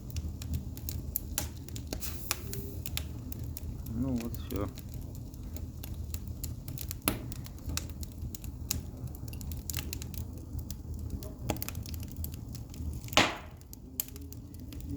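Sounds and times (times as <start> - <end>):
fire rumbling: 0.0 - 14.9
wood crackling and popping: 0.0 - 14.9.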